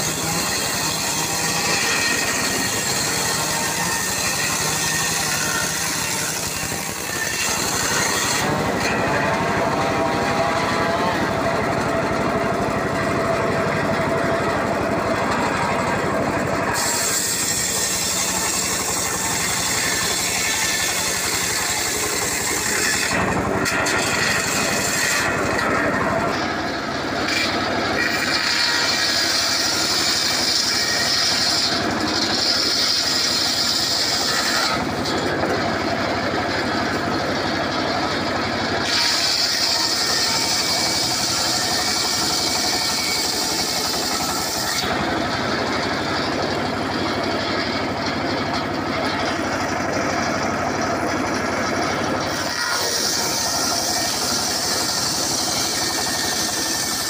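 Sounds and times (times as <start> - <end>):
circular saw running: 0.0 - 57.0
saw blade cutting whine: 0.0 - 57.0.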